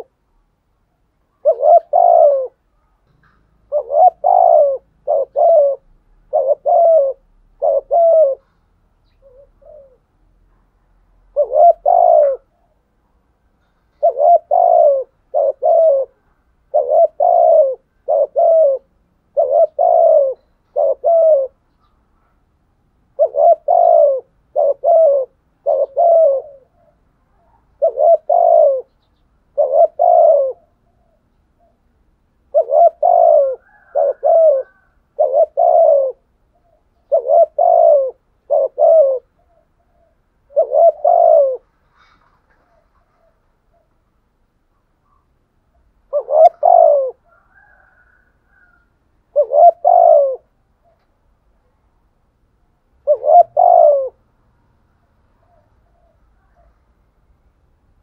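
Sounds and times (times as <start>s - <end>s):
dove cooing: 0.0s - 0.2s, 1.2s - 12.9s, 13.6s - 22.4s, 23.0s - 51.8s, 53.0s - 54.3s, 55.3s - 57.0s.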